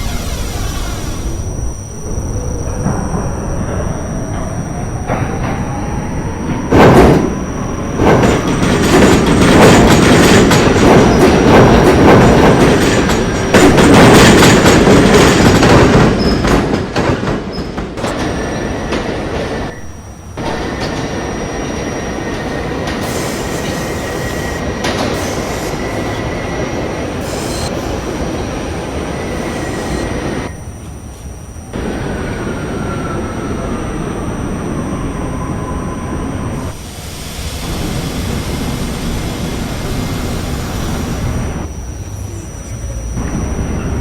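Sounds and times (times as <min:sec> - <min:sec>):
high wheel squeal: 0:00.0 - 0:16.6, 0:17.5 - 0:44.0
rumble of train wheels on rail: 0:00.0 - 0:44.0.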